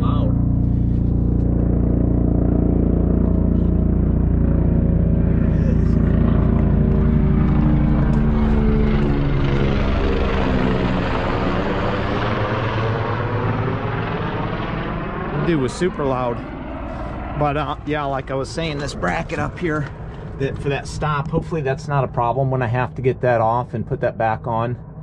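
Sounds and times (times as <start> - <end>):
helicopter rotor beating overhead: 0.0 - 25.0.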